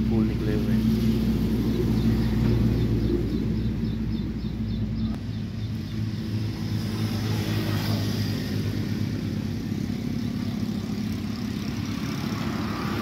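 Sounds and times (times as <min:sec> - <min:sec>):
low engine hum: 0:00.0 - 0:13.0
vehicles passing: 0:00.0 - 0:13.0.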